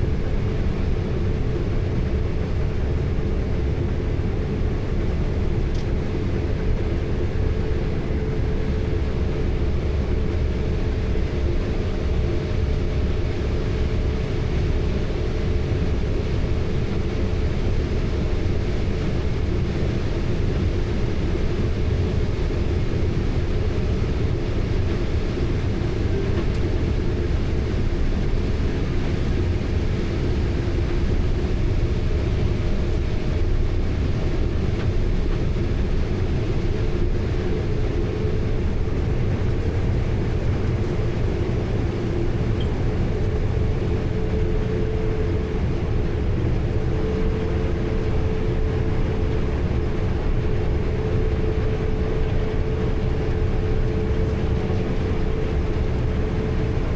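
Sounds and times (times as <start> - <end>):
harvest machinery engine drone: 0.0 - 56.9
thin steady whine: 0.0 - 56.9.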